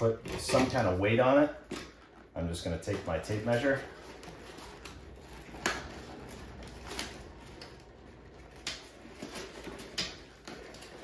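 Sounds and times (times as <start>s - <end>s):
faint rustling of cord: 0.0s - 11.0s.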